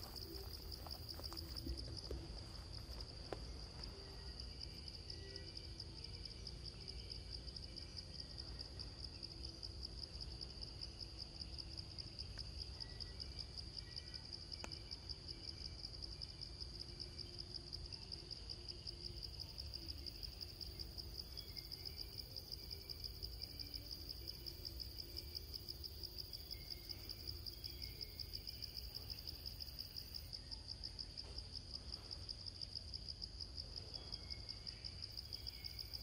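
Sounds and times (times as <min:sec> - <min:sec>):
insects pulsing drone: 0:00.0 - 0:36.0.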